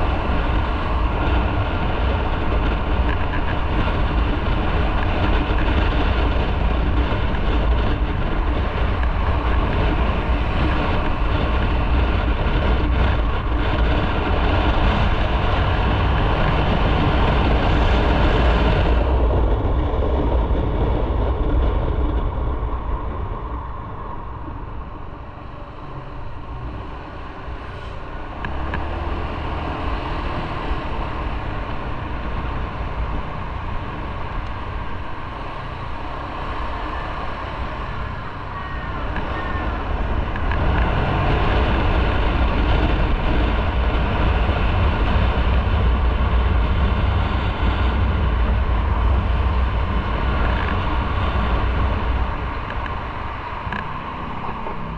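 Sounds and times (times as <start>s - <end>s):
motorcycle engine rumble: 0.0s - 54.9s
wind rushing over microphone: 0.0s - 54.9s.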